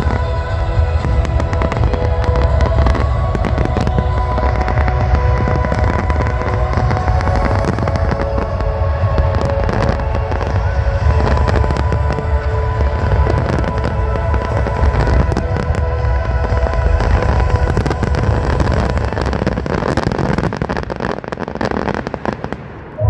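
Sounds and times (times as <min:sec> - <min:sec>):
constant low rumble: 0:00.0 - 0:23.0.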